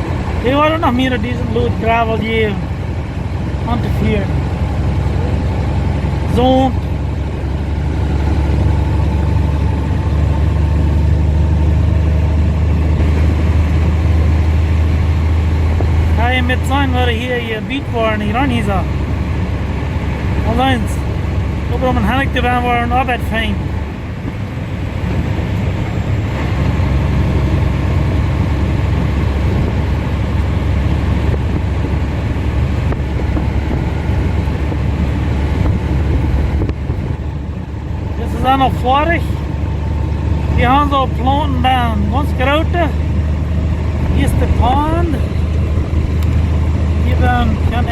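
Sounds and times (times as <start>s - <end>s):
diesel truck engine droning: 0.0s - 47.9s.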